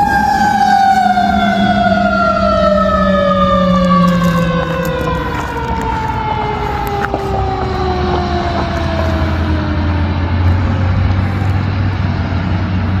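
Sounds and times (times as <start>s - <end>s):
emergency vehicle siren winding down: 0.0s - 13.0s
low engine rumble: 0.0s - 13.0s.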